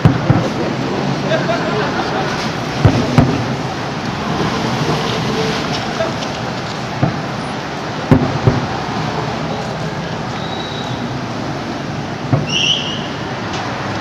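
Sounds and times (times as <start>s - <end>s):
fireworks booming: 0.0s - 13.7s
outdoor background rush: 0.0s - 14.0s.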